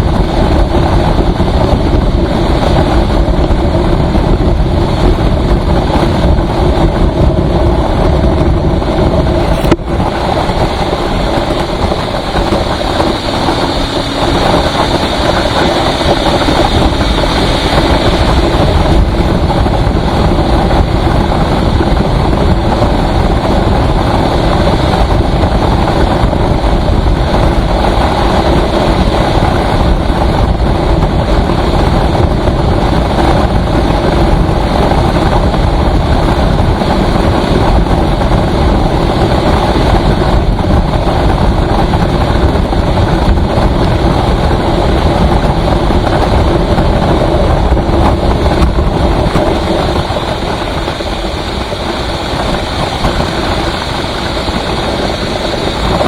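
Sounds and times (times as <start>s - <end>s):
vehicle engine: 0.0s - 56.0s
wind and road noise: 0.0s - 56.0s.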